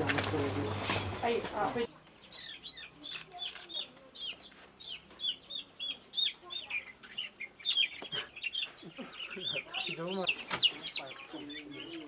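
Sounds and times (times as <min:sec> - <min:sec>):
chicks peeping: 0:00.3 - 0:12.0.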